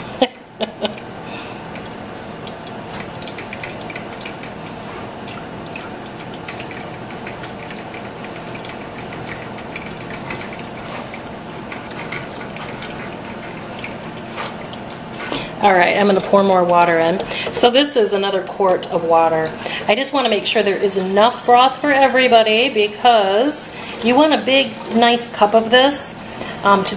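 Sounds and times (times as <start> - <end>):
liquid dripping into pot: 0.0 - 22.1
faint steady hum: 0.0 - 26.9.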